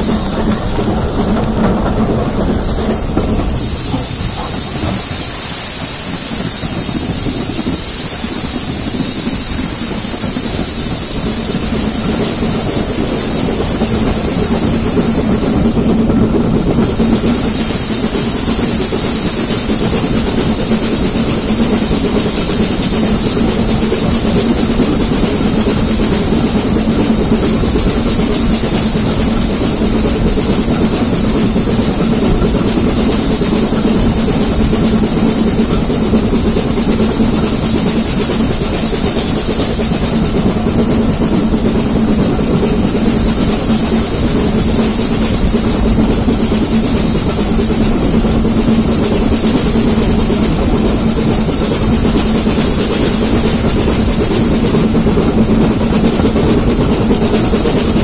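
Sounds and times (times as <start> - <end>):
steam hiss: 0.0 - 58.0
train wheels rumbling on track: 0.0 - 58.0.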